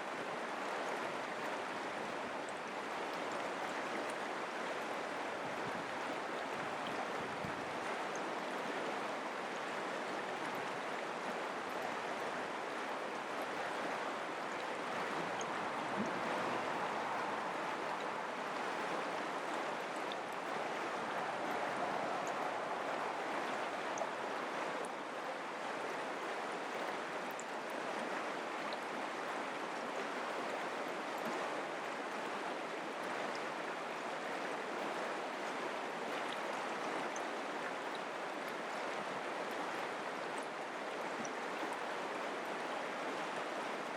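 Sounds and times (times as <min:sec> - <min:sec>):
creek water babbling: 0:00.0 - 0:43.9.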